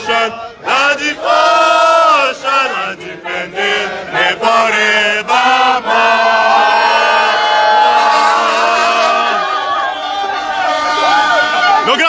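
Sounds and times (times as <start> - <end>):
crowd chanting: 0.0 - 12.0.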